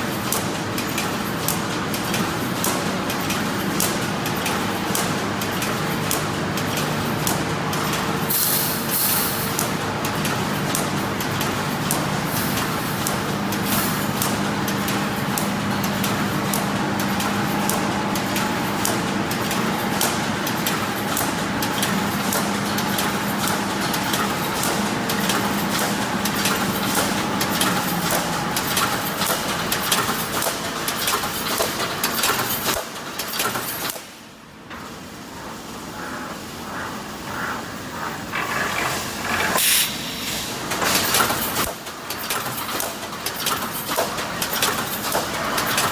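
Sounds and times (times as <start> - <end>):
welding machine clattering: 0.0 - 36.1, 36.7 - 45.9
steady machine hum: 4.1 - 33.2, 34.2 - 42.1.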